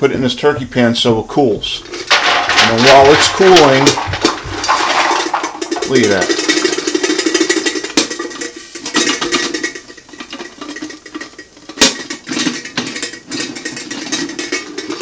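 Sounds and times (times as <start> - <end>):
popcorn rattling into foil pan: 1.8 - 15.0
spoon scraping metal popper: 1.8 - 15.0.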